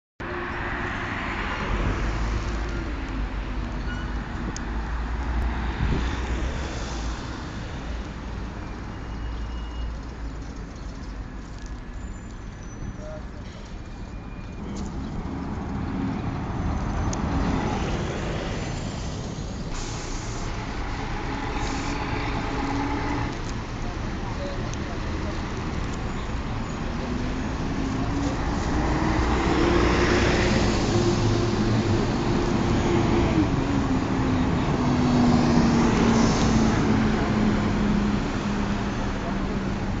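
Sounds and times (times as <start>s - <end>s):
street traffic rumble: 0.2s - 40.0s.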